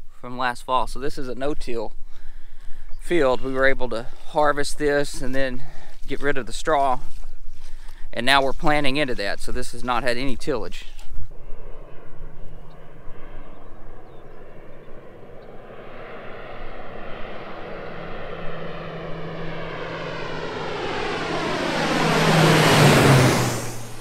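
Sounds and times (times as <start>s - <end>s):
airplane engine and propeller drone: 0.0s - 24.0s.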